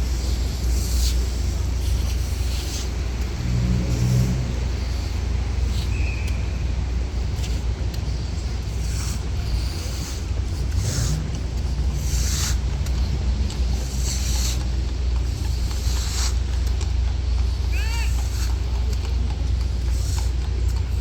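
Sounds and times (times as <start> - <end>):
road traffic rumble: 0.0 - 21.0
vehicle engine passing: 0.0 - 21.0.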